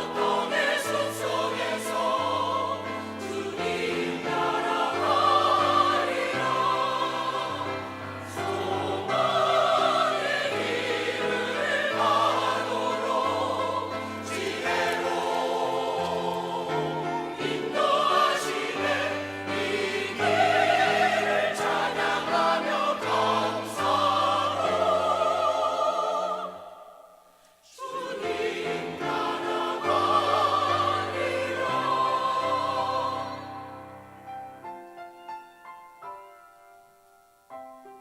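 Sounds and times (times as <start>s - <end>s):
choir singing with vibrato: 0.0s - 34.3s.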